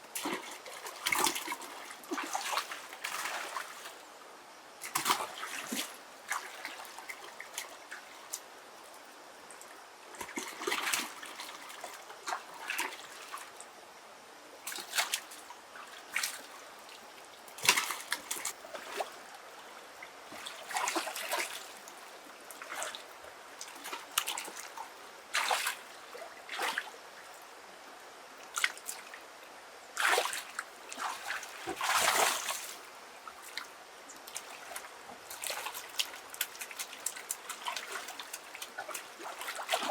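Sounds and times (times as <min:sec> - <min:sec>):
water splashing and trickling: 0:00.0 - 0:04.1, 0:04.8 - 0:09.0, 0:09.6 - 0:13.7, 0:14.6 - 0:27.6, 0:29.9 - 0:39.9.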